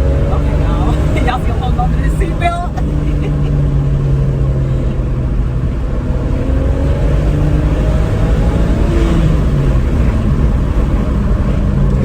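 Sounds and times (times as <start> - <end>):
car engine accelerating: 0.0 - 12.0
road rumble: 0.0 - 12.0.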